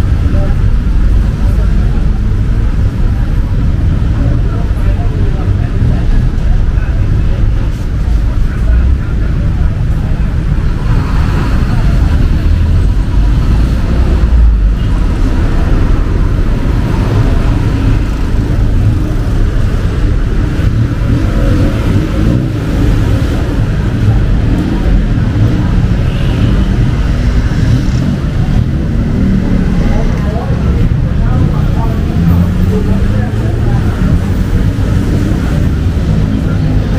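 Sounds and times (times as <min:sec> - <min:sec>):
street traffic rumble: 0:00.0 - 0:36.9.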